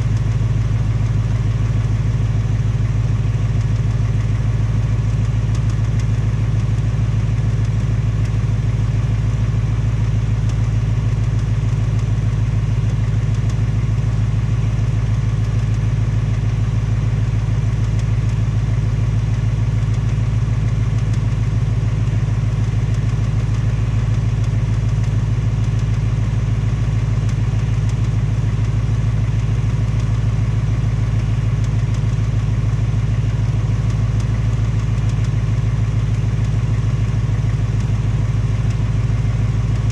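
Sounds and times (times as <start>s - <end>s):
car engine idling: 0.0s - 39.9s
engine ticking: 0.0s - 39.9s.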